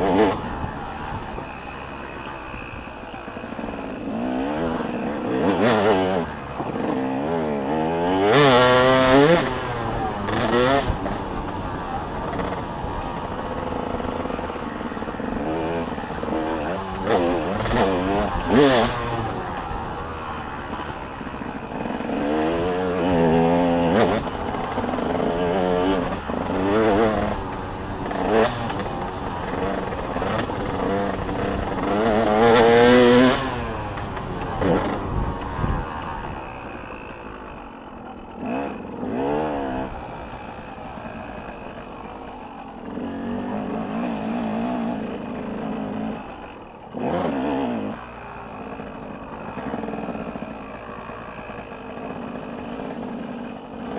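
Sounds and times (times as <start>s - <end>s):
dirt bikes revving and passing: 0.0s - 53.9s.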